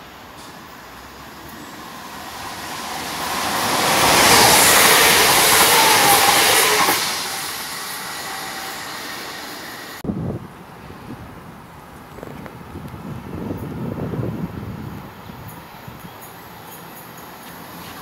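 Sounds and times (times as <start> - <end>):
train passing at speed: 0.0 - 11.8, 13.0 - 18.0.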